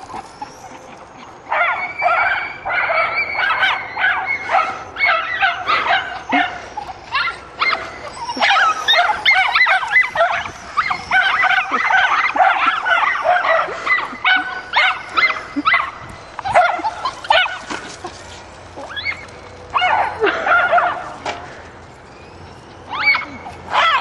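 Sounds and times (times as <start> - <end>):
dogs yipping and barking: 0.0 - 24.0.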